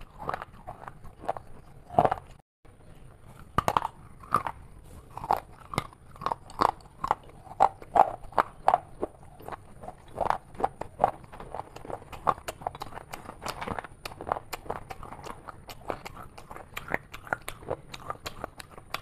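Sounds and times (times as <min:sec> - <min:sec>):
chips crunching: 0:00.0 - 0:02.4, 0:03.4 - 0:19.0.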